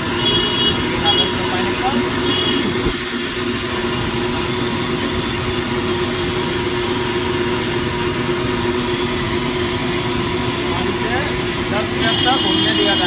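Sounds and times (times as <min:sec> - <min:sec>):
juice machine motor hum: 0:00.0 - 0:13.0.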